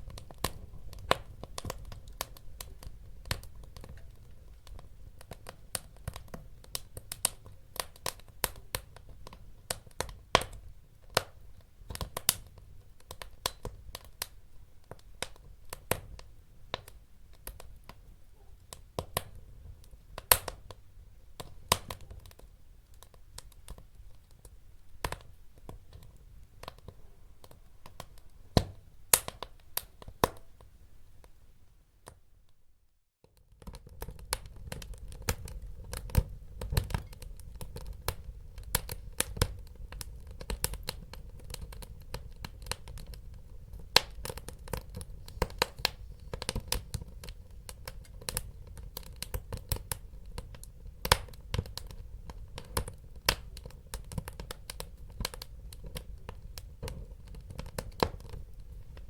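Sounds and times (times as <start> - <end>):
low rumble of burning: 0.0 - 31.1, 33.2 - 59.0
wood fire crackling: 0.0 - 32.2, 33.2 - 59.0.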